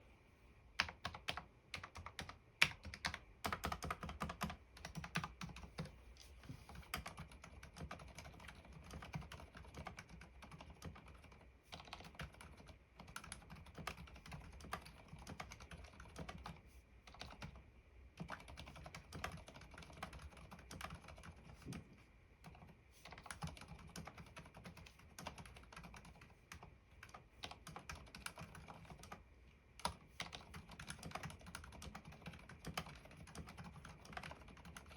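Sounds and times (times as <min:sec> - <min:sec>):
quiet keyboard keystrokes: 0:00.7 - 0:17.6, 0:18.2 - 0:34.9.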